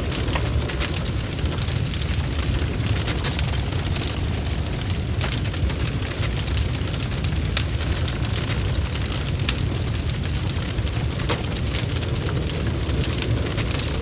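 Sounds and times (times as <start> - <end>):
fire popping and snapping: 0.0 - 14.0
low rumble of fire: 0.0 - 14.0.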